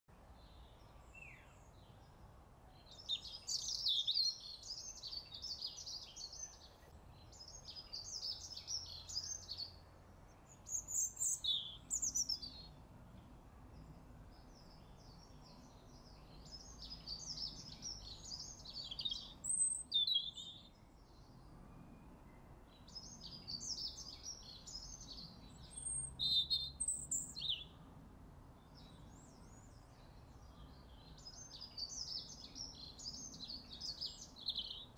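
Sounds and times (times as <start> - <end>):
songbird chirps and trills: 0.1 - 34.9.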